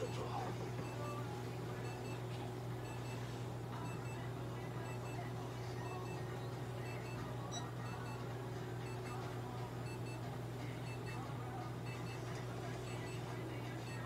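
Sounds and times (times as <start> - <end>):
steady low hum: 0.0 - 14.0
two-tone electronic beeps: 0.0 - 14.0.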